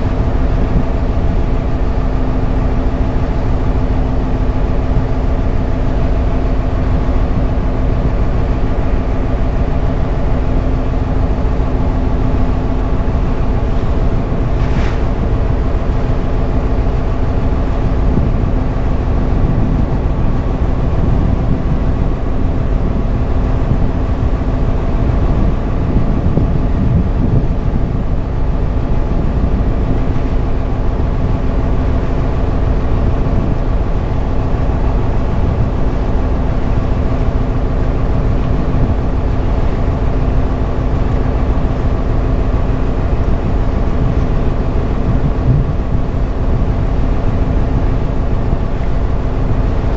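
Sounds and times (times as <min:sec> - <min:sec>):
boat engine droning: 0:00.0 - 0:49.9.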